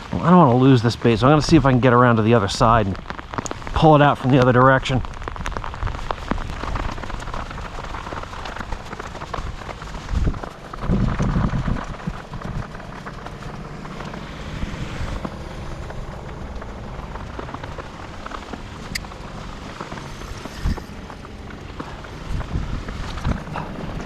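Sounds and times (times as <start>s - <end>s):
heavy rain falling: 0.0s - 24.0s
wind buffeting microphone: 0.0s - 24.0s.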